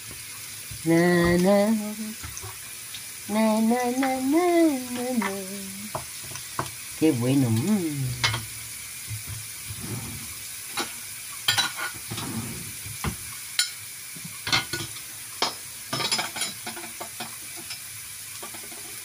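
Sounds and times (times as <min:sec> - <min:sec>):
pepper sizzling in oil: 0:00.0 - 0:19.0.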